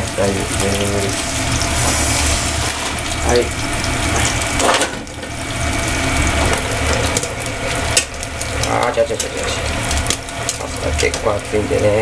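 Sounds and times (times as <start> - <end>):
low hum: 0.0 - 12.0
rushing water: 0.0 - 12.0.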